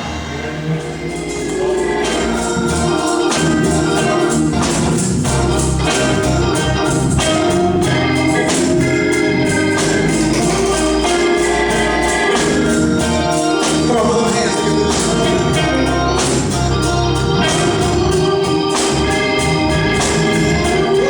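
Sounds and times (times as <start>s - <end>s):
organ playing sustained chords: 0.0s - 21.0s
percussion hits: 0.0s - 21.0s.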